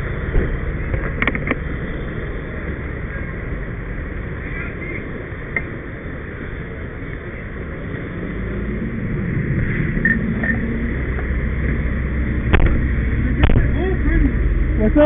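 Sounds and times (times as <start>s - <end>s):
fire engine rumbling: 0.0s - 15.0s.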